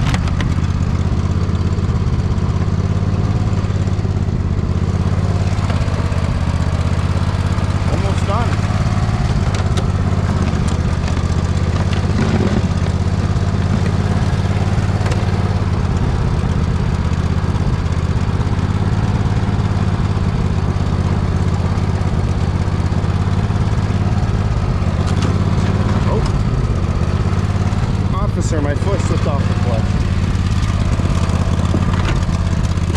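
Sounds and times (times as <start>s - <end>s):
riding mower engine running: 0.0s - 32.9s.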